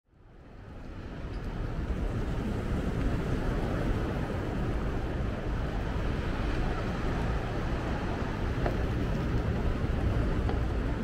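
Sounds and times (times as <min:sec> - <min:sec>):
wind on microphone: 0:00.3 - 0:11.0.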